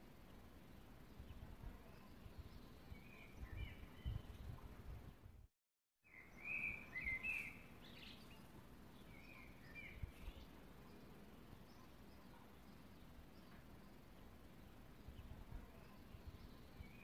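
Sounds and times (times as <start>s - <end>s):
songbird chirping: 0.0s - 5.3s, 6.0s - 17.0s
low background hiss: 0.0s - 5.4s, 6.1s - 17.0s.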